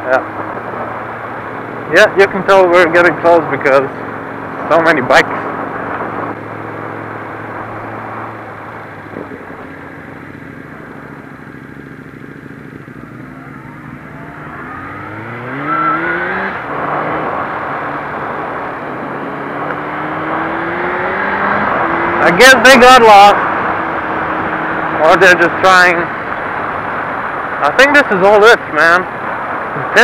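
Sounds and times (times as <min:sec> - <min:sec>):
motorcycle engine revving: 0:00.0 - 0:27.6.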